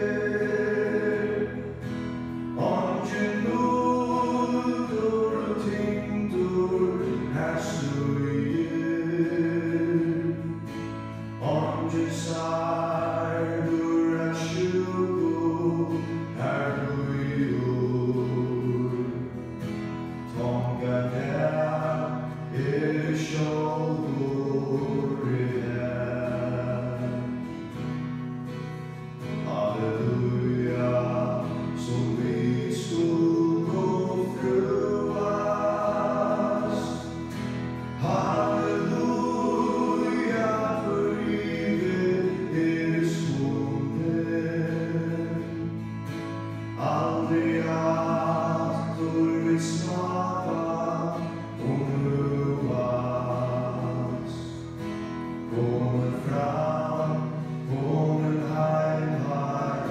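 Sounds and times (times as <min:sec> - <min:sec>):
man singing into microphone: 0:00.0 - 0:01.8, 0:02.6 - 0:10.7, 0:11.4 - 0:19.4, 0:20.3 - 0:27.4, 0:29.3 - 0:46.0, 0:46.7 - 0:54.6, 0:55.5 - 0:59.9
group singing a hymn: 0:00.0 - 0:28.0, 0:29.2 - 0:59.9
acoustic guitar: 0:00.0 - 0:59.9.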